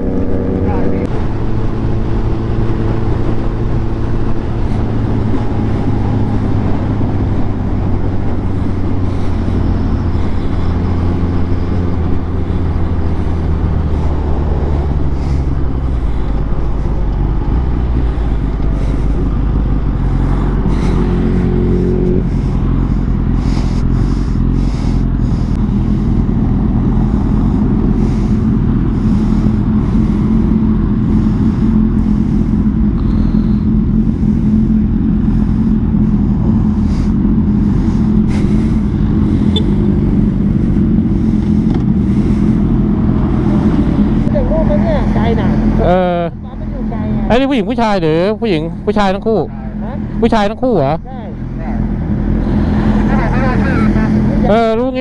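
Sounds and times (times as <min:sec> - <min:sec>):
wind noise on microphone: 0:00.0 - 0:44.4
motorcycle engine running: 0:00.0 - 0:55.0.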